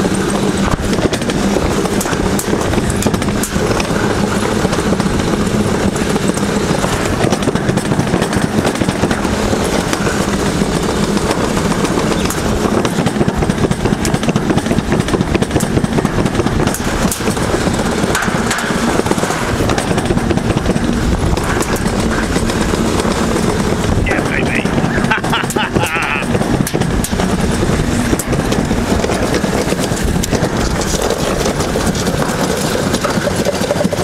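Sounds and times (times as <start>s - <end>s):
low hum: 0.0s - 34.0s
sled rolling down chute: 0.0s - 34.0s.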